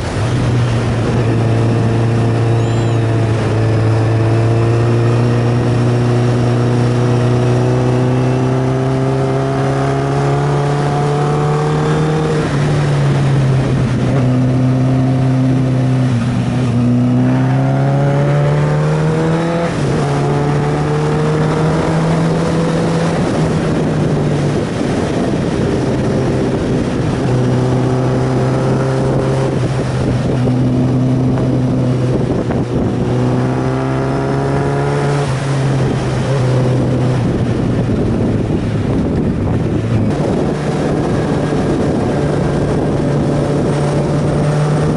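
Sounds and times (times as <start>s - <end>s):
wind rush: 0.0s - 44.9s.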